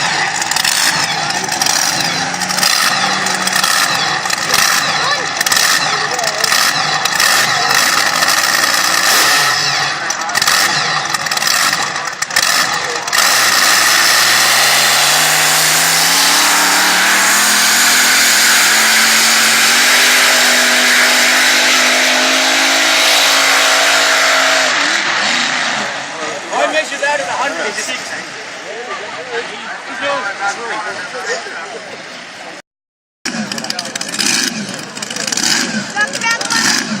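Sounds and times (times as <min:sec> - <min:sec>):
tractor engine at full throttle: 0:00.0 - 0:32.6, 0:33.2 - 0:37.0.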